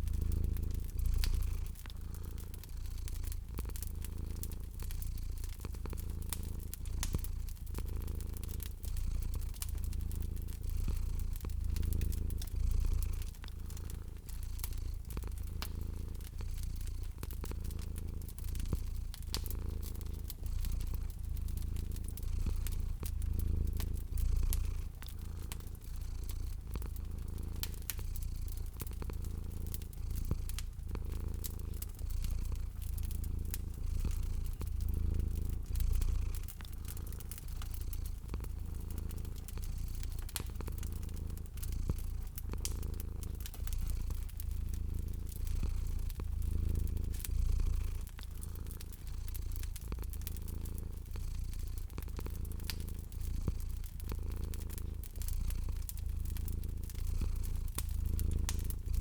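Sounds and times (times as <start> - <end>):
cat purring: 0.0 - 59.0
wood fire crackling: 0.0 - 59.0.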